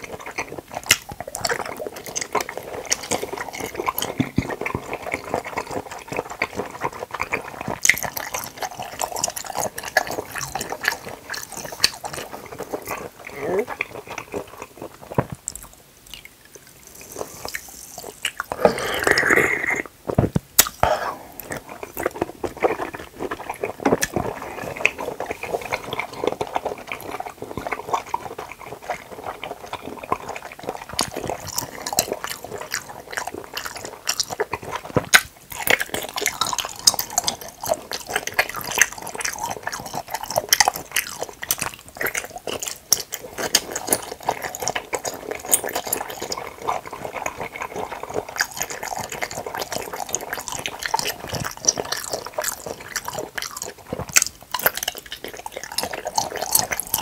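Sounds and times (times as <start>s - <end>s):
slurping jelly: 0.0s - 57.0s
wet chewing: 0.0s - 57.0s.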